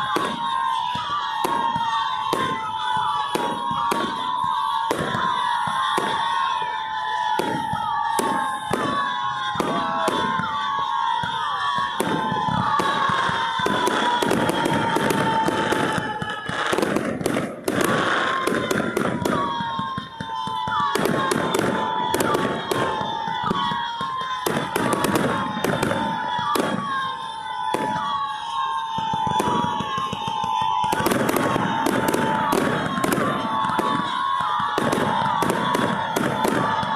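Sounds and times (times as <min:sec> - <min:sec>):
fireworks bangs and crackling: 0:00.0 - 0:36.9.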